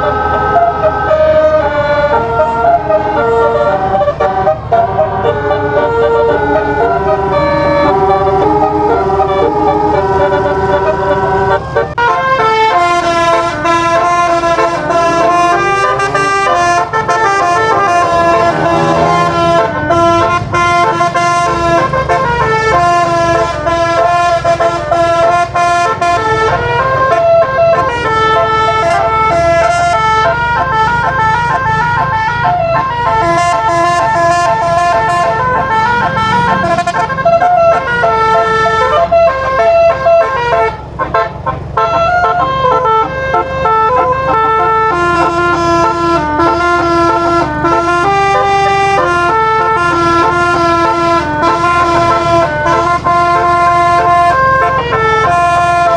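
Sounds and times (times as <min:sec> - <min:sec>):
bus air horn playing melody: 0:00.0 - 0:55.9.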